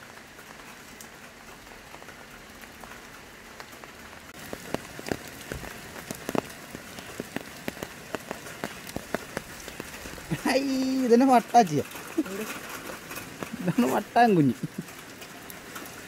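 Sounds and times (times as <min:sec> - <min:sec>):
faint steady hiss: 0:00.0 - 0:16.0
raindrops dripping: 0:00.0 - 0:16.0.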